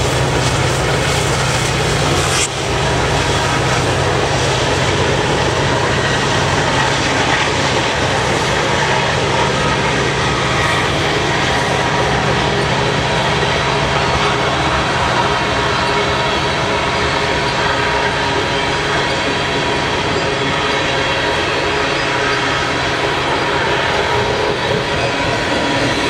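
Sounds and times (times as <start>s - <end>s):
freight train wheels on rail: 0.0s - 26.0s
low diesel rumble: 0.0s - 26.0s.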